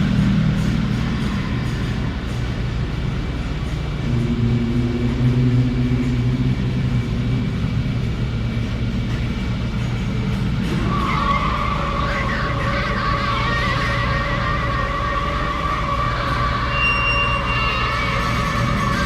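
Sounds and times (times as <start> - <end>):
higher wavering tones: 0.0 - 19.0
low rumbling drone: 0.0 - 19.0.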